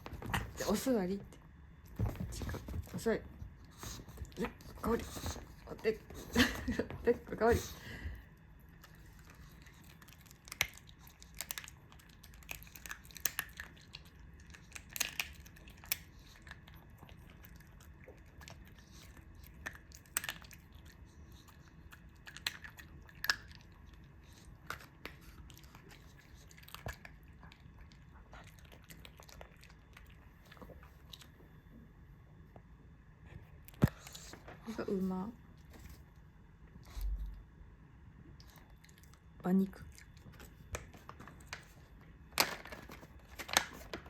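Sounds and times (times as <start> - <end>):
dog chewing and crunching: 1.7 - 31.7, 38.3 - 44.0.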